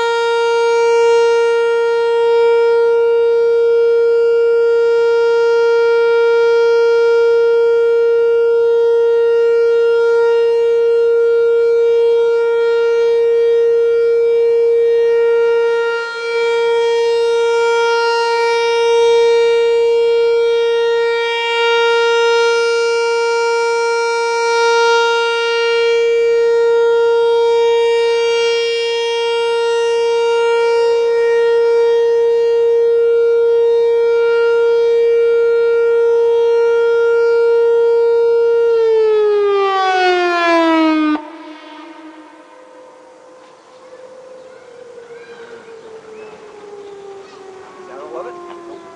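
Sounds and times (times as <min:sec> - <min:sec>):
warning siren steady tone: 0:00.0 - 0:48.9.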